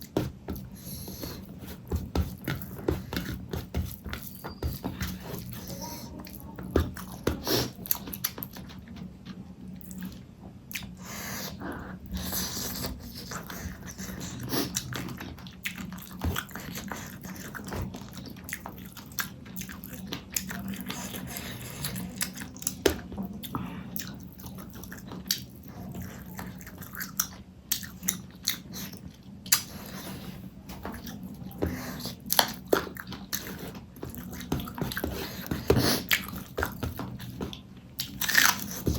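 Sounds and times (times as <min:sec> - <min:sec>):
close chewing and biting: 0:00.0 - 0:38.9.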